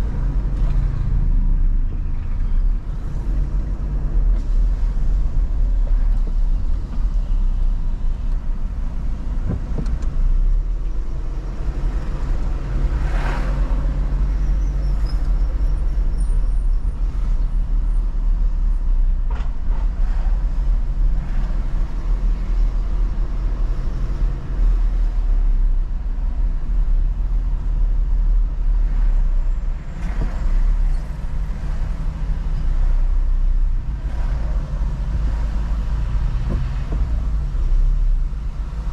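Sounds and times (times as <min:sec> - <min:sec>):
car engine and road noise: 0:00.0 - 0:38.9
passing traffic: 0:00.0 - 0:38.9.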